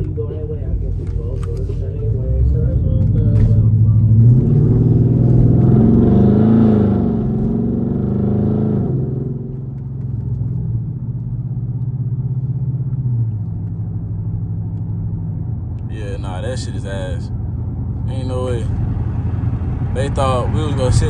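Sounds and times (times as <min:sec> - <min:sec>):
car engine revving and droning: 0:00.0 - 0:21.0.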